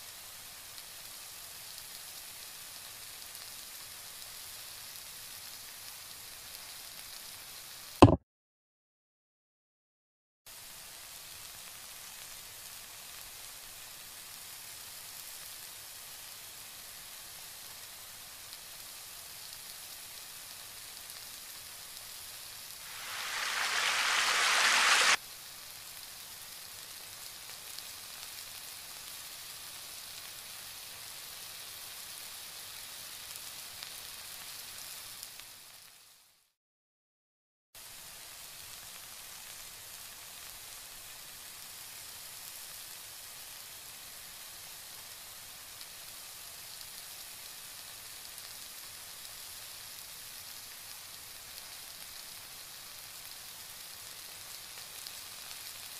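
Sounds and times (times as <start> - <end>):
curry sizzling in a wok: 0.0 - 7.9, 10.5 - 36.5, 37.8 - 55.9
loud sizzle: 0.0 - 7.9, 10.5 - 36.4, 37.8 - 55.9.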